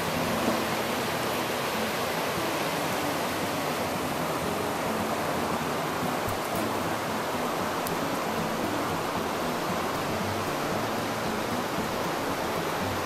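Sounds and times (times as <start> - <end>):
river water rushing over rapids: 0.0 - 13.0.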